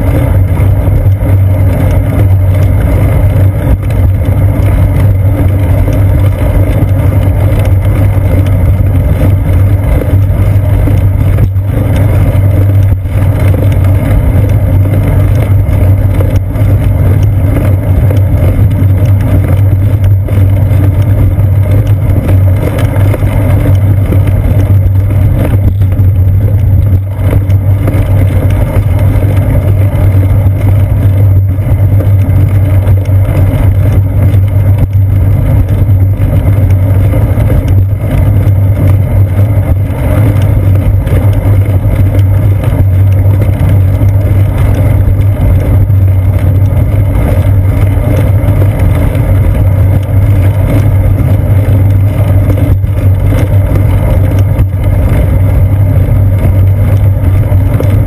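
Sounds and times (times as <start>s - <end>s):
wind and road vibration rumble: 0.0s - 58.0s.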